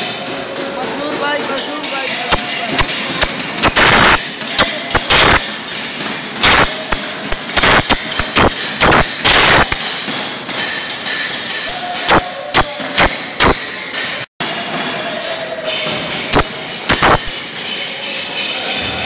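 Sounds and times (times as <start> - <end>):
hammer striking chisel on steel: 0.0 - 18.6.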